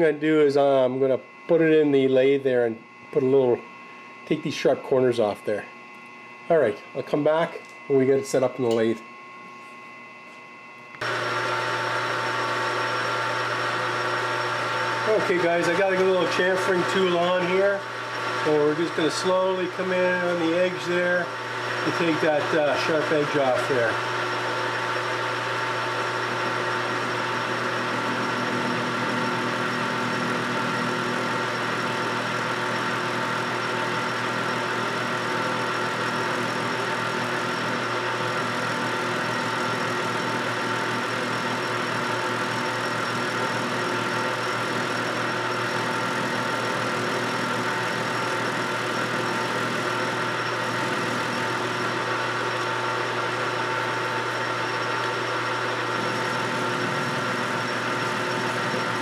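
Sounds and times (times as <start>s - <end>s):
metal lathe motor humming: 0.0s - 59.0s.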